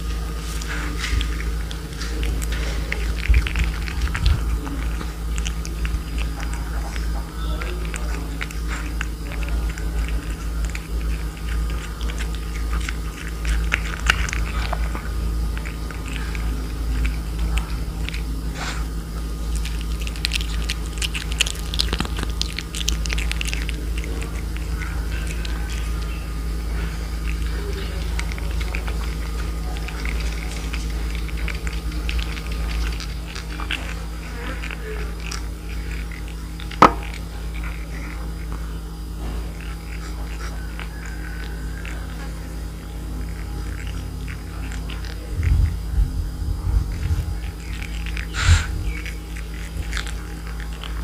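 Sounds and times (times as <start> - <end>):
cat chewing wet clicks: 0.0 - 51.0.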